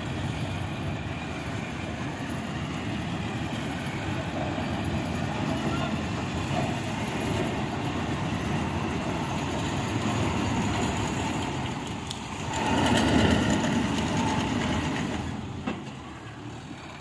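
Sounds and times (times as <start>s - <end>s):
soil loader scooping earth: 0.0s - 17.0s
tractor diesel engines running: 0.0s - 17.0s.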